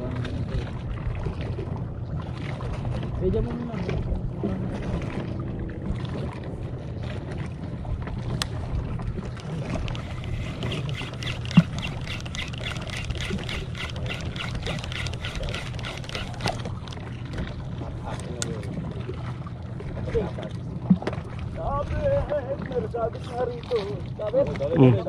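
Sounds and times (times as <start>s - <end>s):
boat motor humming: 0.0s - 25.0s
water noise: 0.0s - 25.0s.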